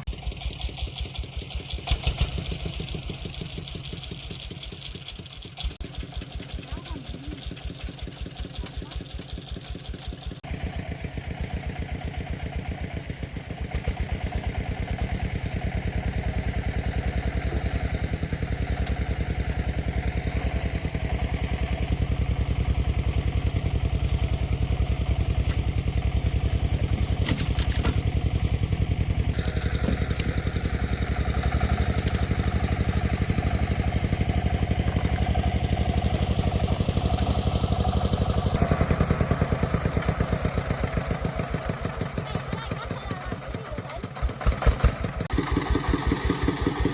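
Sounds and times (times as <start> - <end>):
vehicle engine pulsing: 0.0 - 46.9.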